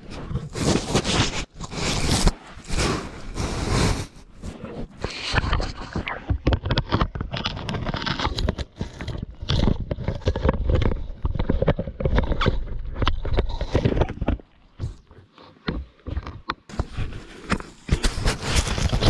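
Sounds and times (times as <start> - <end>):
lion teeth scraping camera: 0.0 - 19.0.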